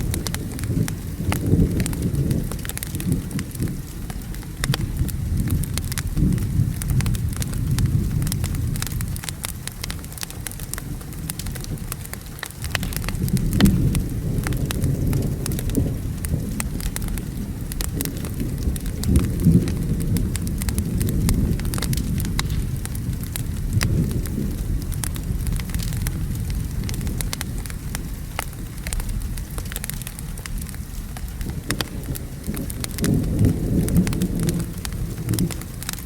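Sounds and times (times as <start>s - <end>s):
low rolling thunder: 0.0s - 36.0s
steady rain: 0.0s - 36.0s
wood fire crackling: 0.0s - 36.0s.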